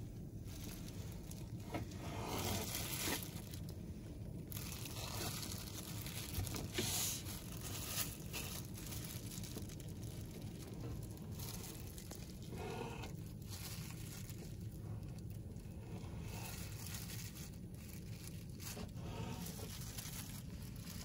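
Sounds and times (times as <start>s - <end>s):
plastic glove crinkling: 0.0s - 21.0s
steady low hum: 0.0s - 21.0s.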